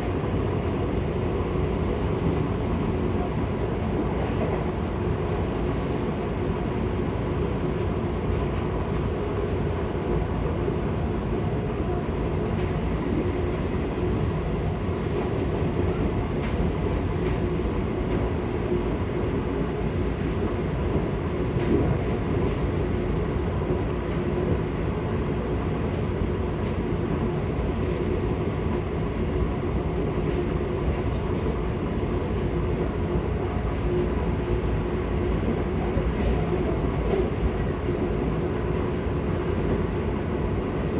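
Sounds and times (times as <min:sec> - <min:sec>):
electric train hum: 0:00.0 - 0:40.9
train wheels rumbling on rail: 0:00.0 - 0:40.9.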